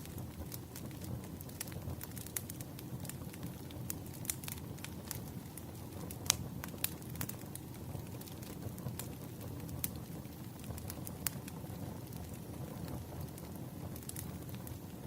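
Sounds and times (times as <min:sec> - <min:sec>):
fire flames rumbling: 0:00.0 - 0:15.0
wood fire crackles and pops: 0:00.0 - 0:15.0.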